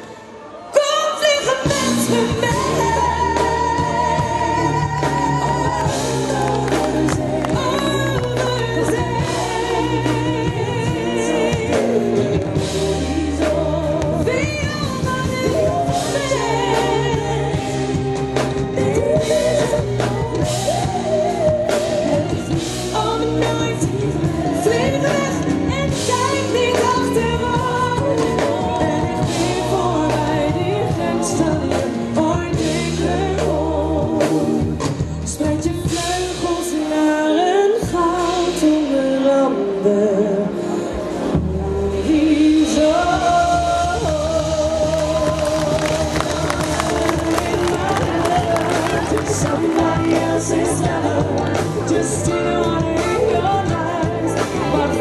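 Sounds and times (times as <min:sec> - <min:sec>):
backing singers: 0:00.0 - 0:55.0
live pop band: 0:00.0 - 0:55.0
woman singing lead vocal: 0:00.0 - 0:55.0.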